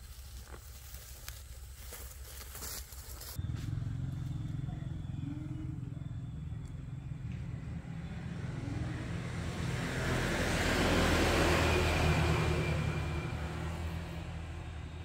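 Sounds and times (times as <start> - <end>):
small engine low rumble: 0.0 - 15.0.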